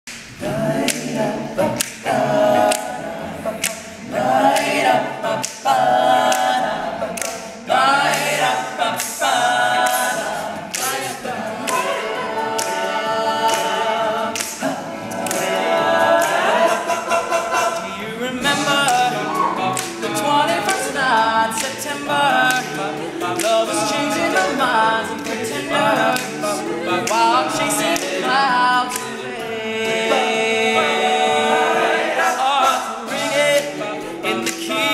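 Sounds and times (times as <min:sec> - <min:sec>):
male a cappella group singing: 0:00.4 - 0:34.9.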